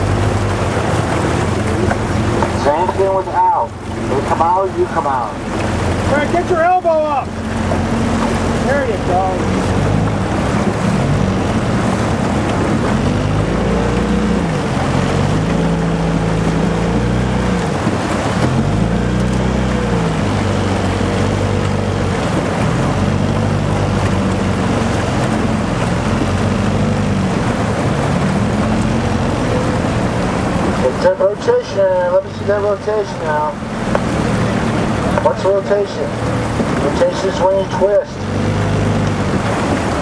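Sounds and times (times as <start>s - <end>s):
boat motor running: 0.0s - 40.0s
wind and water rushing: 0.0s - 40.0s.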